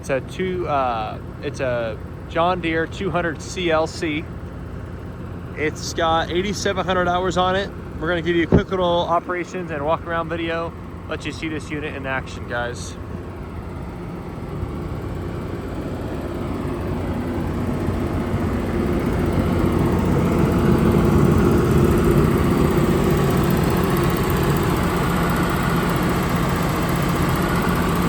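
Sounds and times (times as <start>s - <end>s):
diesel excavator engine idling: 0.0s - 28.0s.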